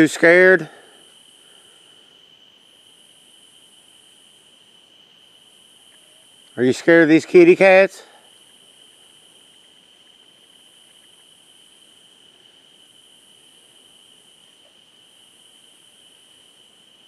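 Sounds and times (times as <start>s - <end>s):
cricket trill: 0.0s - 17.0s
high insect hiss: 0.0s - 17.0s.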